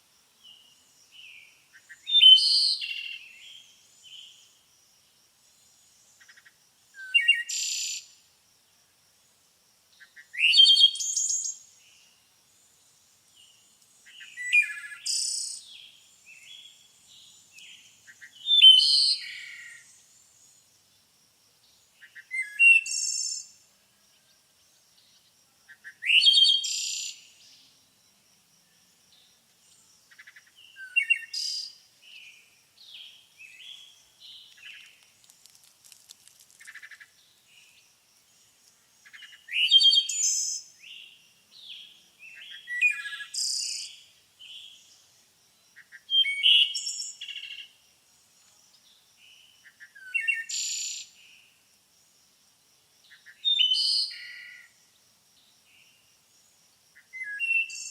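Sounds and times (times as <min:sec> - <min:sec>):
songbirds singing: 0:00.4 - 0:04.7, 0:05.5 - 0:08.2, 0:09.9 - 0:27.9, 0:28.5 - 0:51.6, 0:53.0 - 0:57.9.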